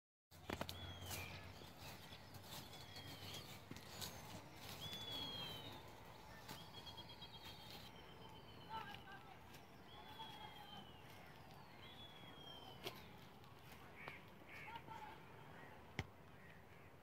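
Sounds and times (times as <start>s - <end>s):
birds whistling calls: 0.5s - 14.8s.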